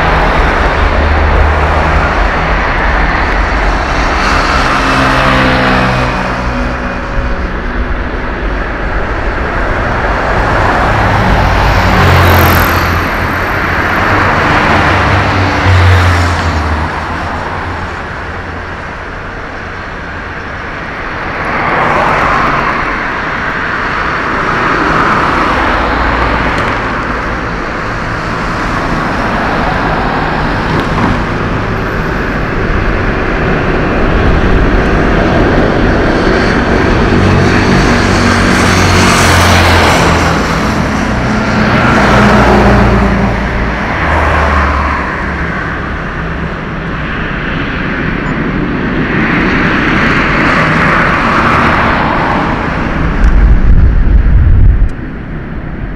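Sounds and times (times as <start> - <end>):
jet engine rumble: 0.0 - 55.9.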